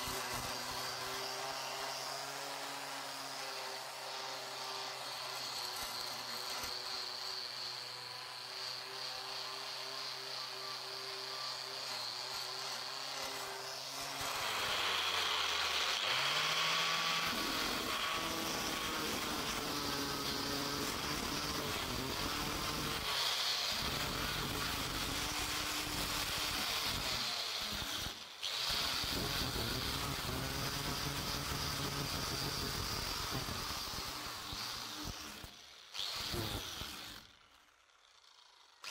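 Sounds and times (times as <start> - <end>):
angle grinder sanding wood: 0.0 - 37.5.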